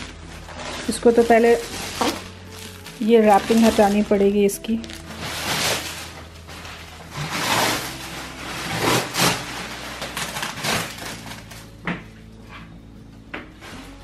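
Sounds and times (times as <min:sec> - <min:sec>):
plastic wrapping crinkling: 0:00.0 - 0:12.4, 0:13.5 - 0:14.0.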